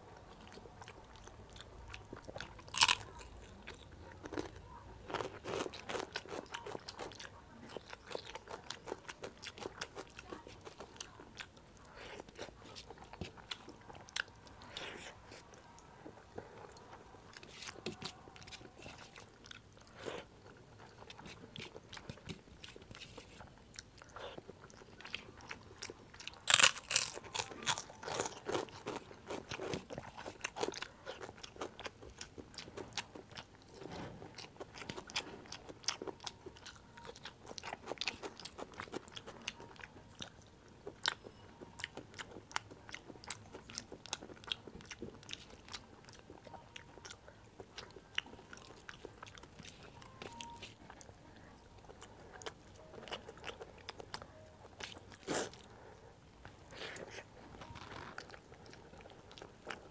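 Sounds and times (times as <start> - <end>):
chewing and wet mouth sounds: 0.0 - 59.9.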